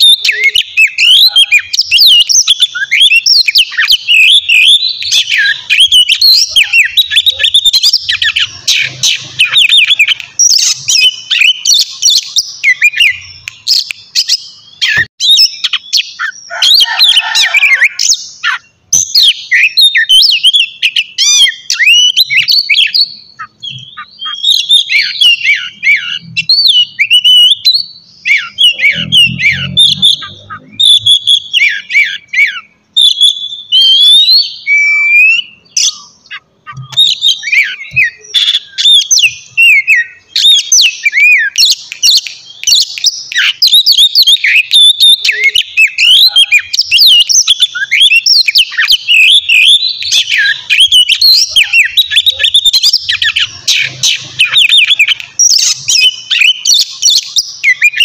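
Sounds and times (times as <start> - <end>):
bird singing whistles and chirps: 0.0 - 58.0.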